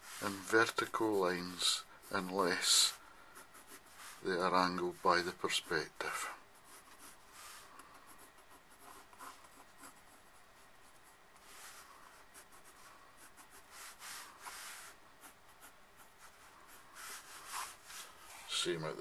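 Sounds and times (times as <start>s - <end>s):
pencil scratching on paper: 0.0s - 19.0s.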